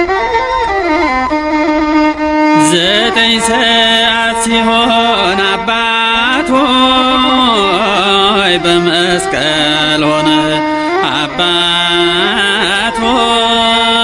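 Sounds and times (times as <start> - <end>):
sustained accompaniment: 0.0 - 14.0
man singing a hymn: 2.6 - 14.0.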